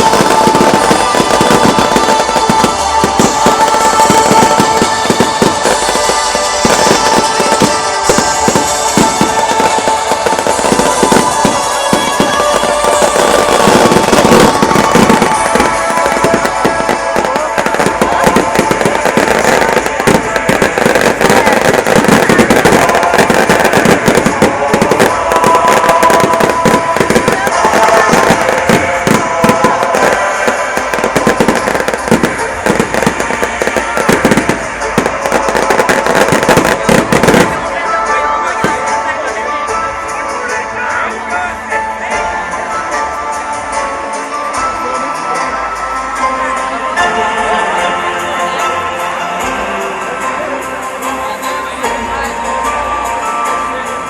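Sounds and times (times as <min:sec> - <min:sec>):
fireworks bangs and crackling: 0:00.0 - 0:54.0
music playing: 0:00.0 - 0:54.0.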